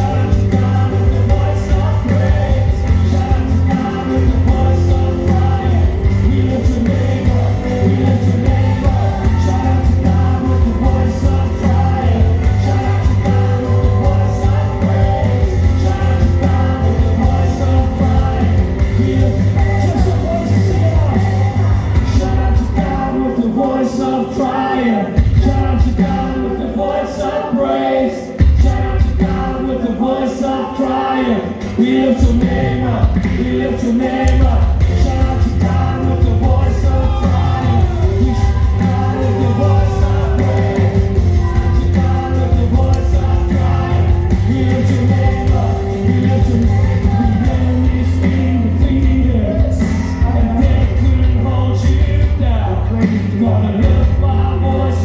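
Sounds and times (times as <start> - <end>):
strong bass line: 0.0 - 23.4, 32.2 - 55.0
worship band with singing: 0.0 - 55.0.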